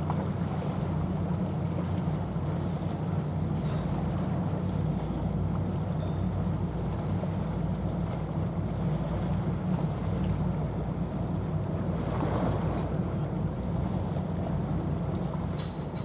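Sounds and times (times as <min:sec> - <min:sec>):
ship diesel engine drone: 0:00.0 - 0:16.0
water noise: 0:00.0 - 0:16.0
wind: 0:00.0 - 0:16.0.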